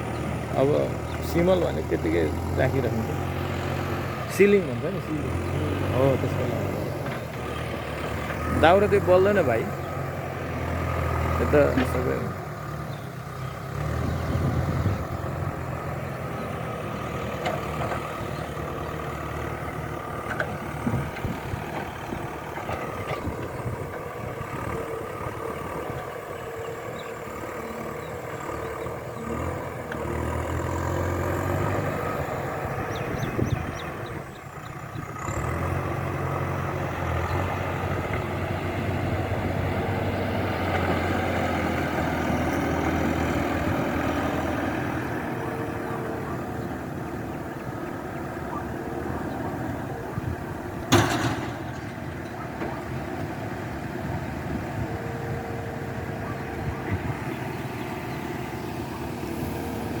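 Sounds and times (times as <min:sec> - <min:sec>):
engine running at low speed: 0:00.0 - 1:00.0.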